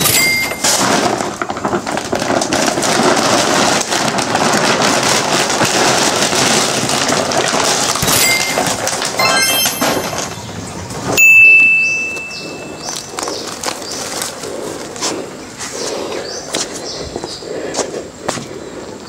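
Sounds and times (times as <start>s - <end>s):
plastic sack rustling and crinkling: 0.0s - 17.4s.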